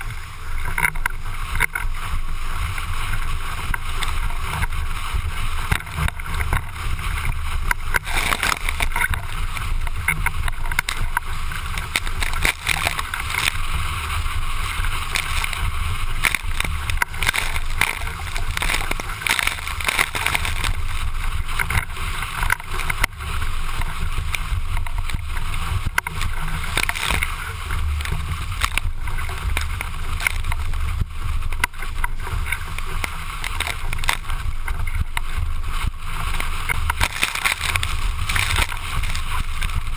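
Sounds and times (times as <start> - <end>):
rushing water and spray: 0.0 - 39.9
water slapping board: 3.6 - 35.2, 36.3 - 39.9.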